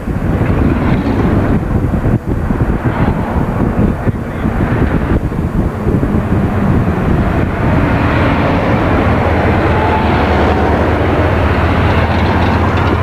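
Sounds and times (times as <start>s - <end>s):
road and engine rumble: 0.0s - 13.0s
wind noise: 0.0s - 13.0s.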